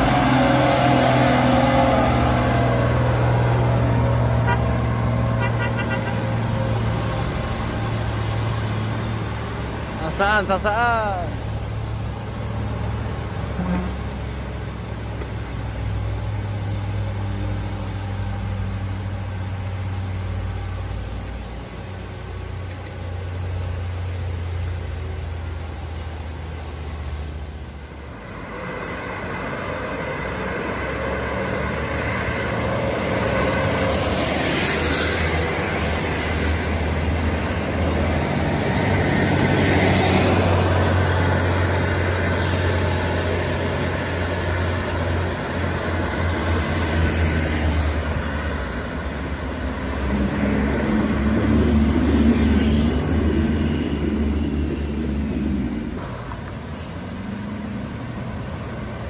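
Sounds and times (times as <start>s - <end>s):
bus diesel engine drone: 0.0s - 59.0s
road traffic passing: 0.0s - 59.0s.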